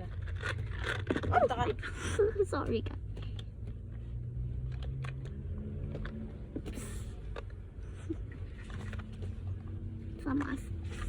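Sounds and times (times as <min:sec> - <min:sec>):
car cabin hum and rumble: 0:00.0 - 0:11.0.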